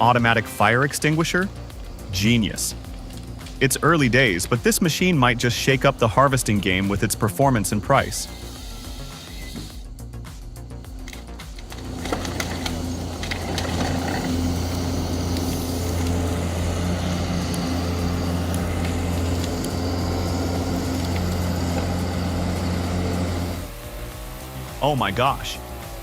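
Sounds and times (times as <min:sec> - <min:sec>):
large engine humming: 0:00.0 - 0:26.0.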